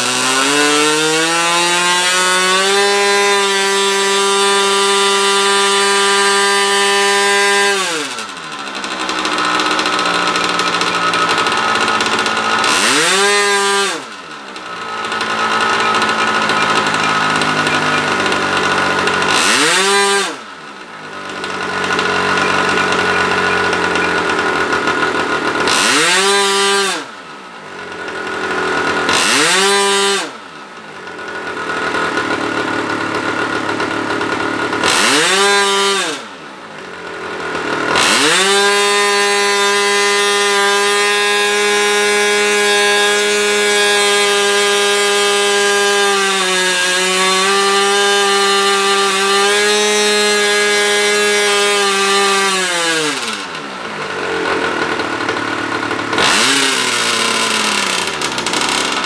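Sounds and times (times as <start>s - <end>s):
model airplane engine revving: 0.0s - 59.0s.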